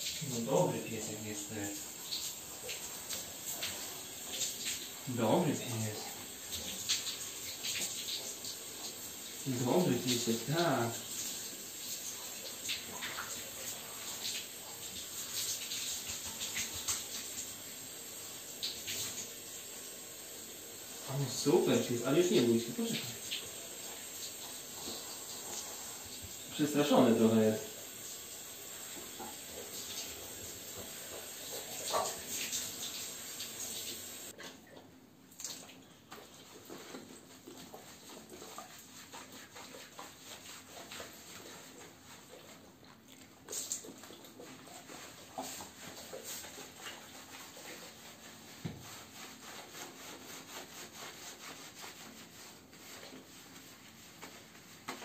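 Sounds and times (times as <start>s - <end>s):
shower spray hissing: 0.0s - 34.4s, 43.4s - 55.0s
water dripping: 0.0s - 49.6s
hands rubbing shampoo lather: 0.1s - 17.6s, 21.0s - 34.2s, 36.3s - 55.0s.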